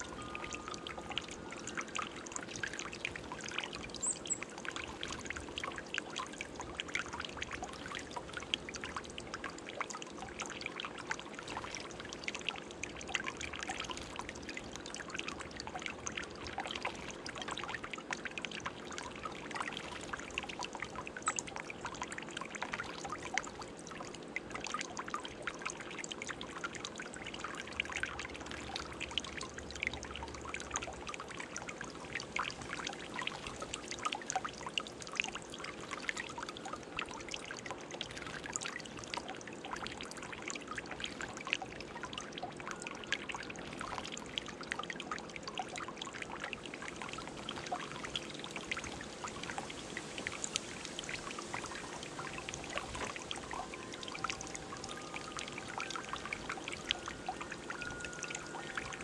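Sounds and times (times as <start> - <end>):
fountain water trickling: 0.0 - 59.0.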